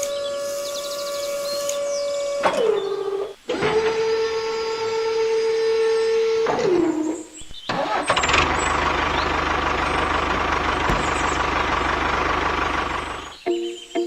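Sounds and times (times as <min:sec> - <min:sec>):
engine starting and running: 0:01.7 - 0:13.4.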